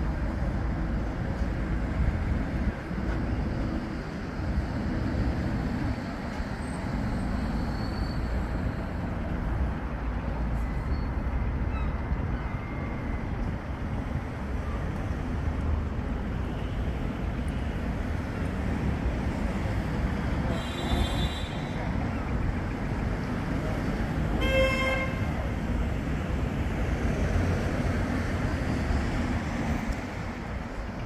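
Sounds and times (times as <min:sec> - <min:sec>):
traffic rumble: 0:00.0 - 0:31.0
tram slowing to a stop: 0:00.0 - 0:31.0.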